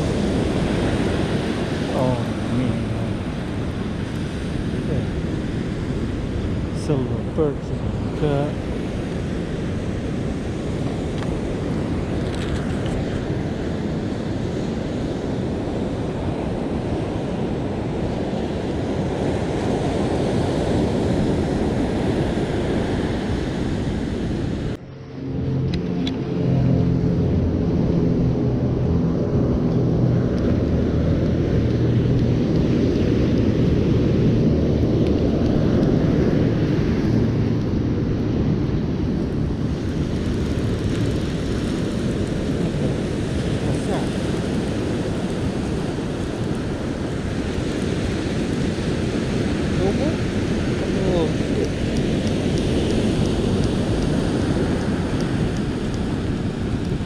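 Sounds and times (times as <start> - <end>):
low hum: 0.0 - 57.0
ocean surf: 0.0 - 57.0
wind rumbling on microphone: 0.0 - 57.0.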